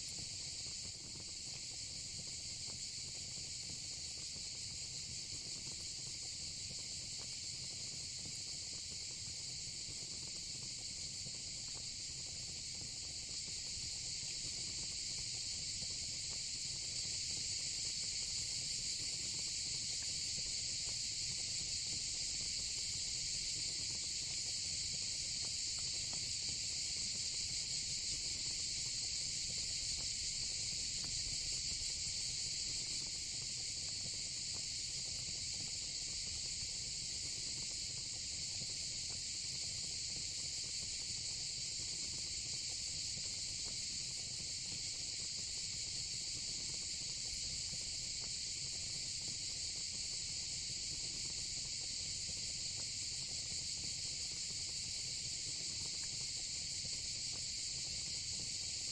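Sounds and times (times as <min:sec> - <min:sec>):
faint fire crackles: 0:00.0 - 0:58.9.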